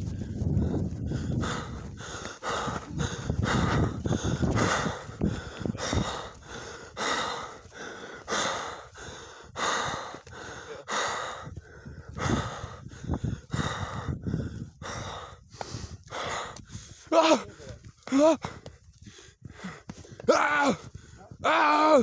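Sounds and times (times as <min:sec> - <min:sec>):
heavy breathing: 0:00.0 - 0:21.4.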